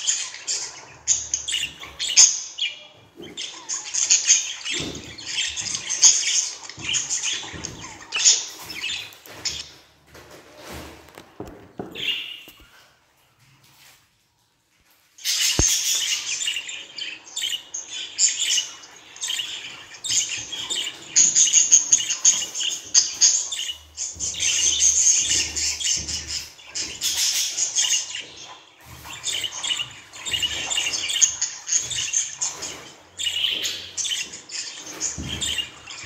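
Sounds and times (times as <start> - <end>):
budgerigar chatter: 0.0 - 9.7, 15.5 - 36.0.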